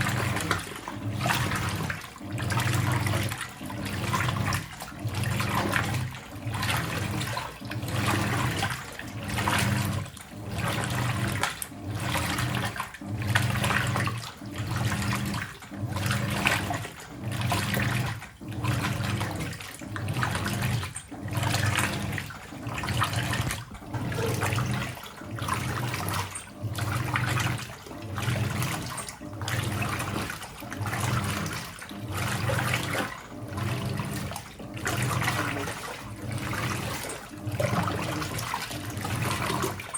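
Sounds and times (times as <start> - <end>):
washing machine motor hum: 0.0 - 39.9
washing machine water sloshing: 0.0 - 39.9.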